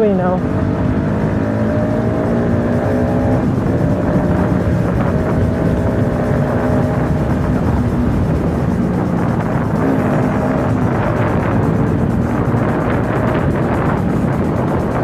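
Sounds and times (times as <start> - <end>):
motorcycle engine cruising: 0.0 - 15.0
road and wind rumble: 0.0 - 15.0.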